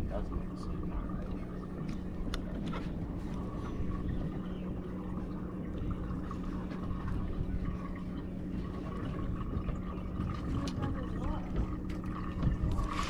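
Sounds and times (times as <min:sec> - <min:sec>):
steady mechanical hum: 0:00.0 - 0:13.0
water trickling and splashing: 0:00.0 - 0:13.0.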